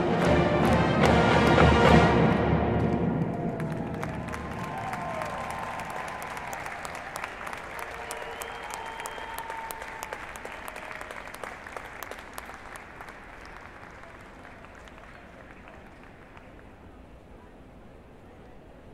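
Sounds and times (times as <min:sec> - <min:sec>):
audience applause: 0:00.0 - 0:17.0.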